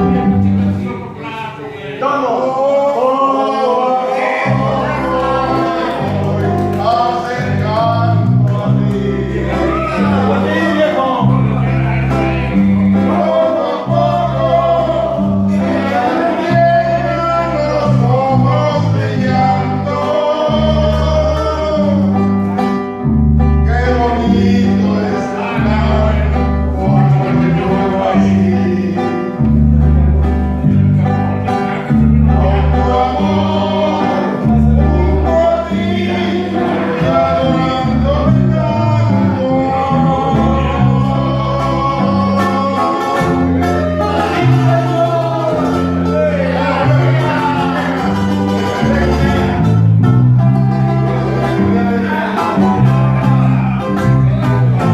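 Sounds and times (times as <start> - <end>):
bass line: 0.0 - 1.9, 2.5 - 54.9
guitar: 0.0 - 54.9
person singing: 0.0 - 54.9.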